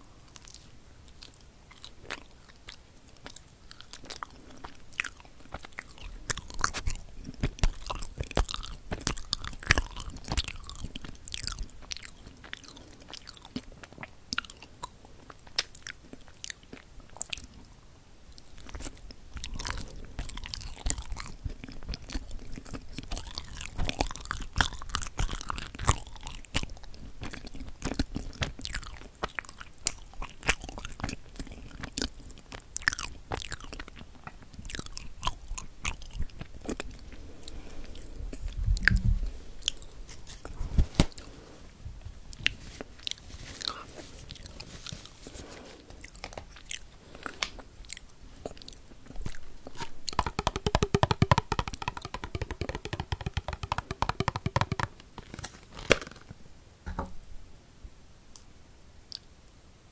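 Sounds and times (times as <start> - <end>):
mouth chewing with wet clicks: 0.3 - 41.3, 42.3 - 45.2, 45.9 - 55.2, 59.1 - 59.3.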